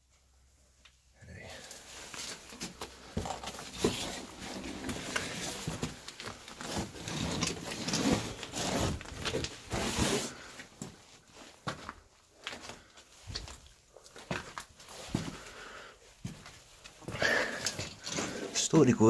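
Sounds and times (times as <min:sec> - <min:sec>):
scuffs on rocky floor: 0:01.6 - 0:18.6.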